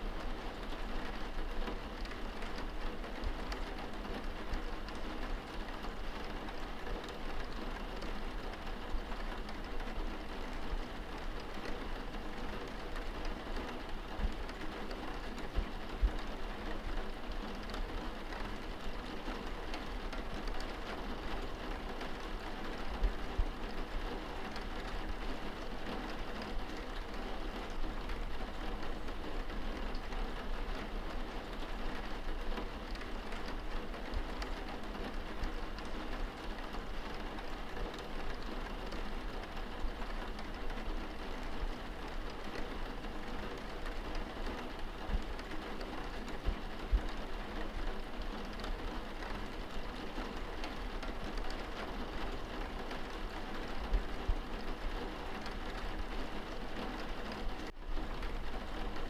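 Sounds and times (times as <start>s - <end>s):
light rain pattering on window: 0.0s - 59.0s.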